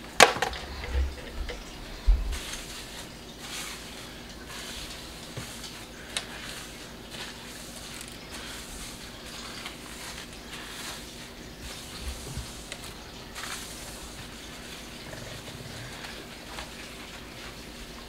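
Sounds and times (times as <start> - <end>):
sponge scrubbing countertop: 0.6 - 18.0.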